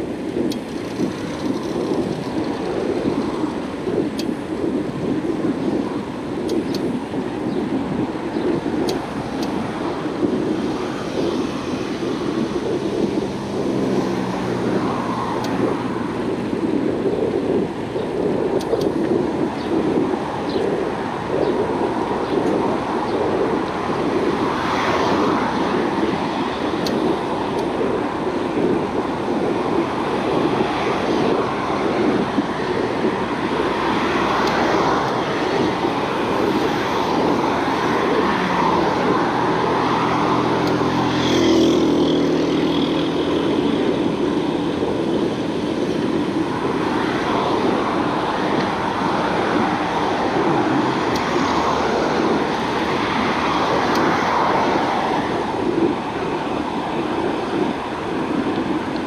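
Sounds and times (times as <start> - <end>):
road traffic noise: 0.0 - 59.0
passing vehicle engine hum: 8.6 - 18.0, 19.0 - 59.0.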